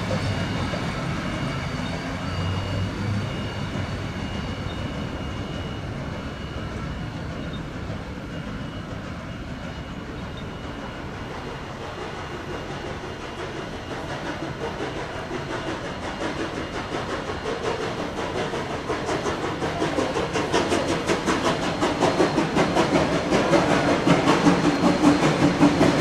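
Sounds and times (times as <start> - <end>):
train carriages rumbling on track: 0.0 - 26.0.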